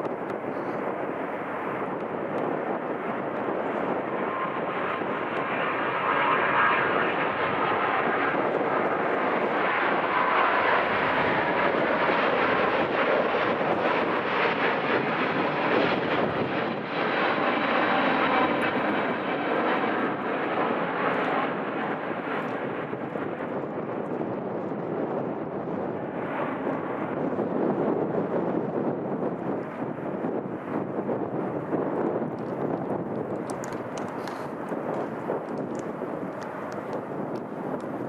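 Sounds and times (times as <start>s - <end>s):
airliner engines running: 0.0s - 38.0s.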